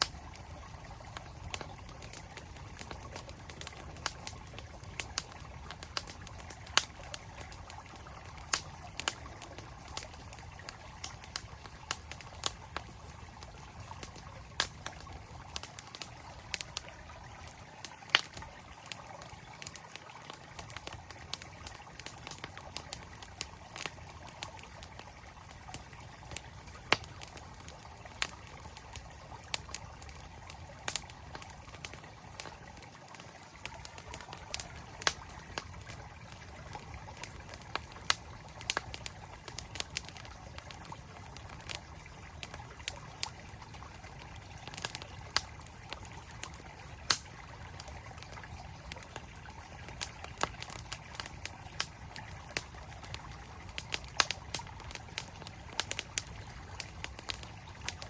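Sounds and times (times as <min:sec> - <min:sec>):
campfire crackling: 0:00.0 - 0:58.0
flowing stream: 0:00.0 - 0:58.0.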